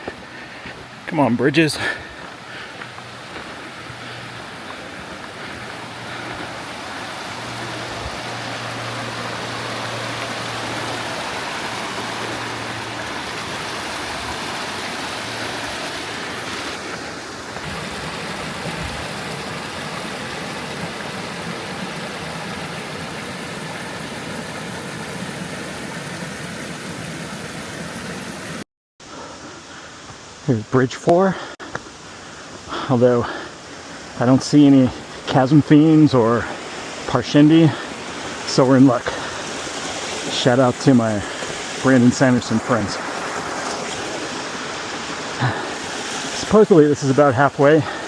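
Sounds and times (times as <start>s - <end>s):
creek rushing over rocks: 0.0s - 28.6s, 30.3s - 48.0s.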